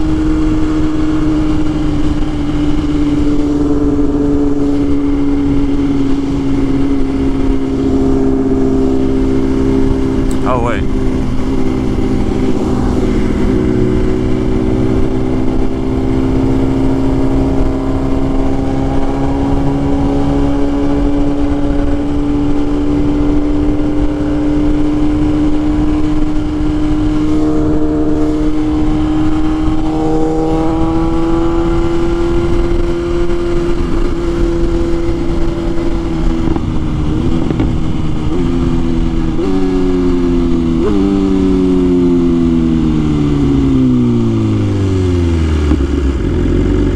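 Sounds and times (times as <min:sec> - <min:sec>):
motorcycle downshifts: 0:00.0 - 0:46.9
motorcycle engine running: 0:00.0 - 0:46.9.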